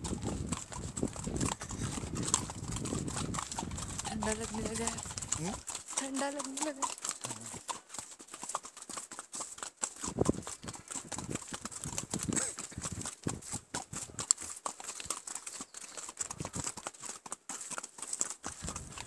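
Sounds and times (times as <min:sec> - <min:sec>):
horse hooves clopping on a path: 0:00.0 - 0:19.0.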